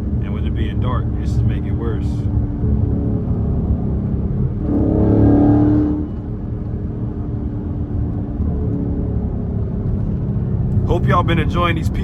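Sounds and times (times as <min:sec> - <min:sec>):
car exhaust droning: 0:00.0 - 0:12.0.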